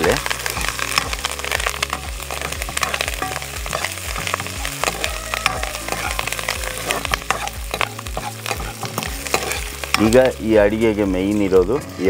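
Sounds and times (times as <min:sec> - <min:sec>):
food sizzling in hot oil: 0:00.0 - 0:12.0
steel ladle scraping and knocking: 0:00.0 - 0:12.0.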